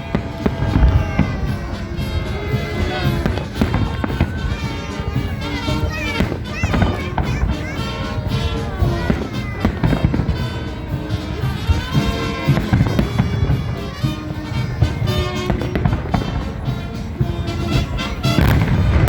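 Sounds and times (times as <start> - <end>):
fireworks bangs: 0.0 - 19.0
loud music: 0.0 - 19.0.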